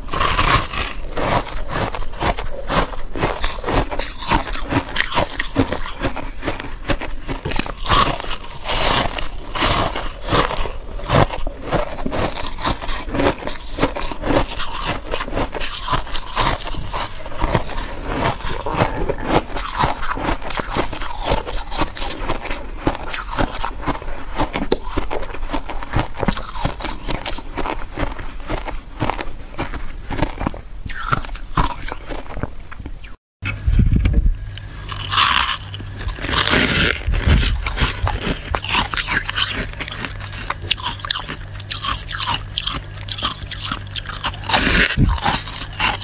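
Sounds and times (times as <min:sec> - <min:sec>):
frost being bitten and chewed: 0:00.0 - 0:33.2, 0:34.4 - 0:46.0.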